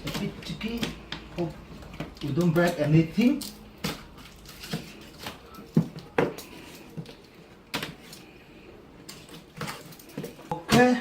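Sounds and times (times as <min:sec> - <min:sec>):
box and packing being handled: 0:00.0 - 0:11.0.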